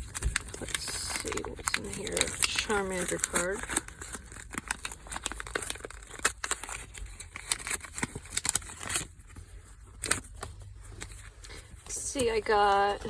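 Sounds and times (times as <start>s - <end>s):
card pack wrapper tearing and crinkling: 0.0s - 13.0s.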